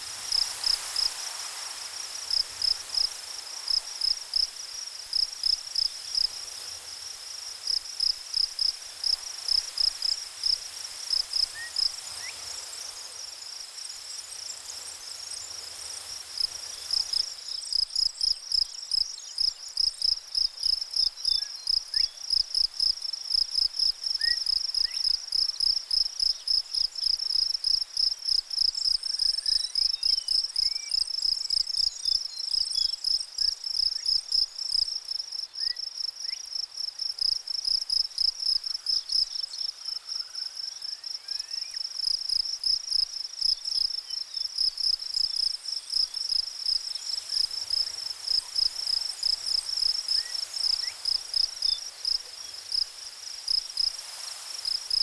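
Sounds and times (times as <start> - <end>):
insects trilling: 0.3 - 55.0.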